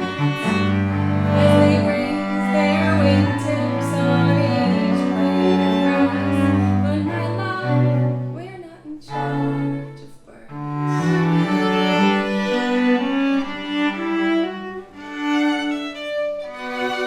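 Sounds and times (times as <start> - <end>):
bowed strings playing chords: 0.0 - 8.5, 9.1 - 17.0
cello playing long low notes: 0.0 - 17.0.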